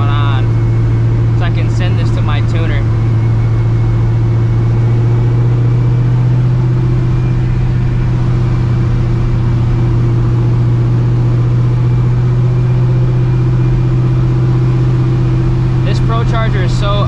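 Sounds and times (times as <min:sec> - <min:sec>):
car exhaust drone: 0:00.0 - 0:17.0
supercharger whine: 0:00.0 - 0:17.0.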